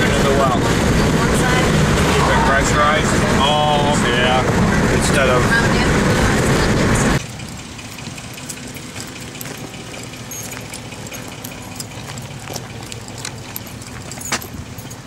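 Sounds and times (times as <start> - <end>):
engine idling: 0.0 - 15.0
road and engine noise in car: 0.0 - 15.0.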